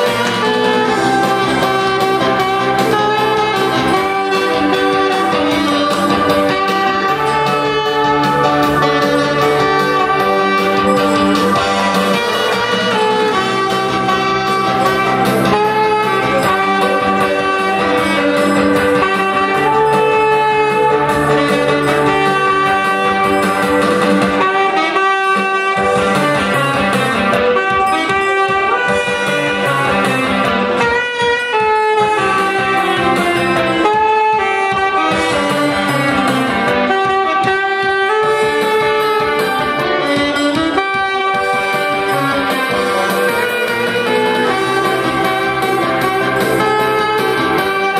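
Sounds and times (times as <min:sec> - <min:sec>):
backing track with guitar: 0:00.0 - 0:47.9
saxophone melody: 0:00.0 - 0:47.9.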